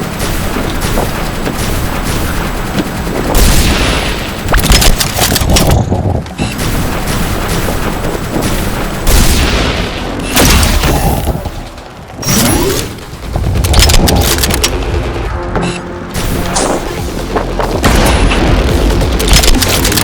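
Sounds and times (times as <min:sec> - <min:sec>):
rapid gunfire: 0:00.0 - 0:05.8, 0:06.4 - 0:15.2, 0:16.1 - 0:20.0.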